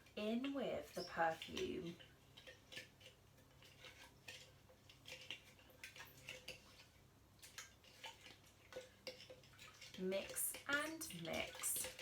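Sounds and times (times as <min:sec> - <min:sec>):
stick stirring water: 0:00.0 - 0:12.0.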